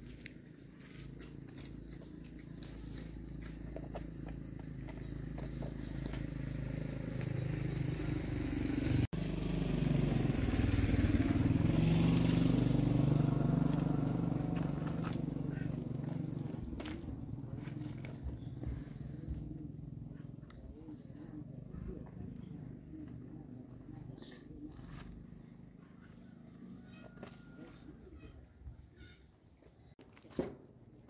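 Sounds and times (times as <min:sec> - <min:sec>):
motorcycle engine passing by: 0:00.1 - 0:28.4.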